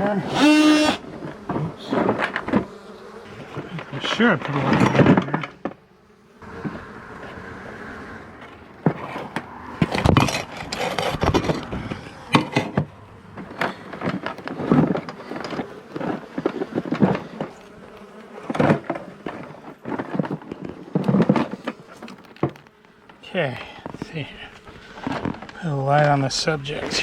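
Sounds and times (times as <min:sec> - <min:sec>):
honeybee colony buzzing: 0:00.0 - 0:27.0
knocks and scrapes: 0:01.1 - 0:05.8, 0:08.3 - 0:27.0.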